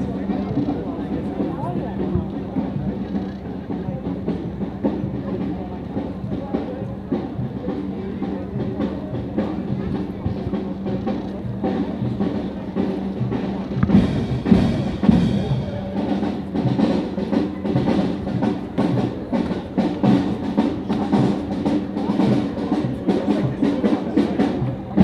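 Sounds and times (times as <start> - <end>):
bass drum: 0.0 - 25.0
snare drum: 0.0 - 25.0.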